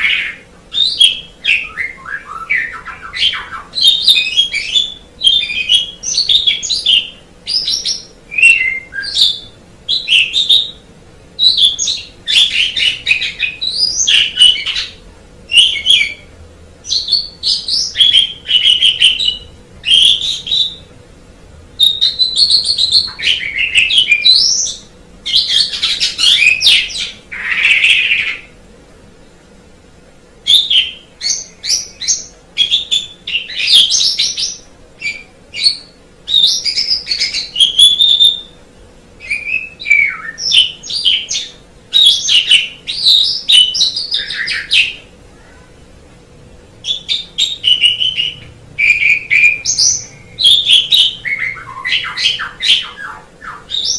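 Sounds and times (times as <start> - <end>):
starling singing: 0.0 - 21.0, 21.8 - 28.6, 30.4 - 38.6, 39.2 - 45.1, 46.8 - 53.9.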